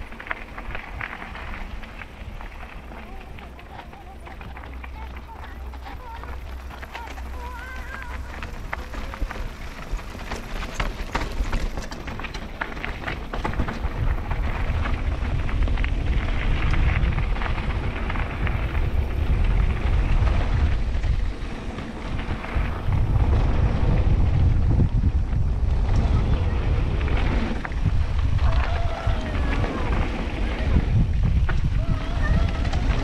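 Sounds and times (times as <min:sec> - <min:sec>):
bike rattles and clicks: 0:00.0 - 0:33.0
tyres crunching over gravel: 0:00.0 - 0:33.0
wind buffeting microphone: 0:00.0 - 0:33.0.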